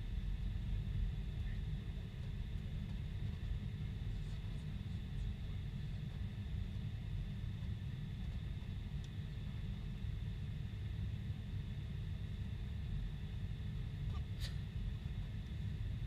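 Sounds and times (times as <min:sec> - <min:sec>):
airplane engine and airflow rumble: 0:00.0 - 0:16.0.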